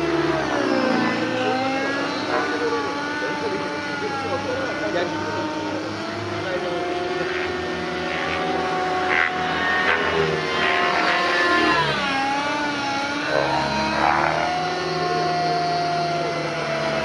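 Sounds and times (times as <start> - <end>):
model helicopter engine and rotor: 0.0 - 17.0.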